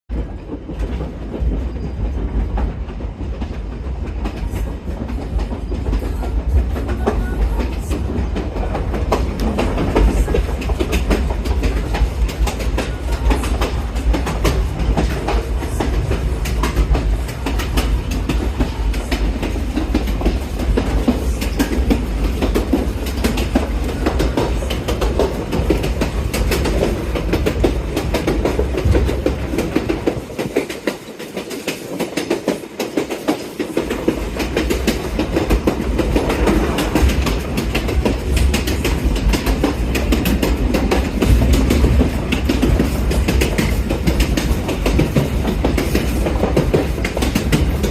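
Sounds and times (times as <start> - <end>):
train carriage rumble: 0.1 - 47.9
wheels clacking over rail joints: 0.1 - 47.9.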